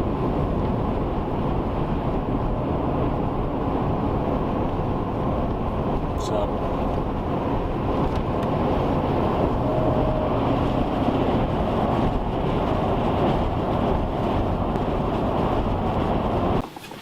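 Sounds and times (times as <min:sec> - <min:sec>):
vehicle road and engine noise: 0:00.0 - 0:17.0.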